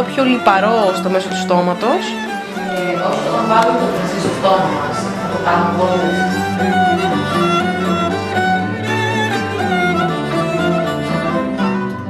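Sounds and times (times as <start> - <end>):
bowed string instrument melody: 0.0 - 12.0.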